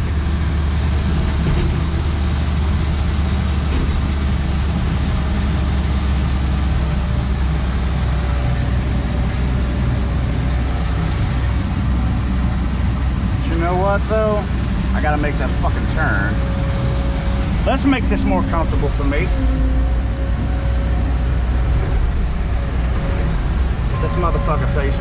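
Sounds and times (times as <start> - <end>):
road noise: 0.0 - 25.0
truck engine drone: 0.0 - 25.0.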